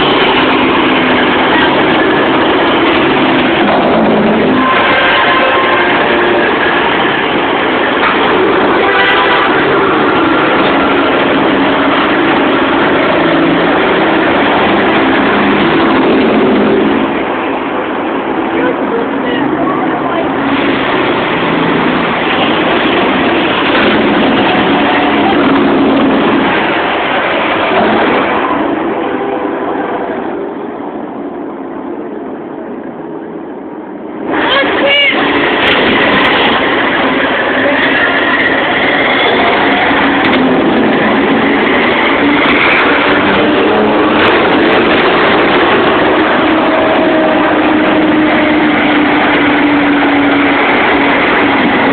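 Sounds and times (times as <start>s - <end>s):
heavy truck engines passing: 0.0s - 51.9s.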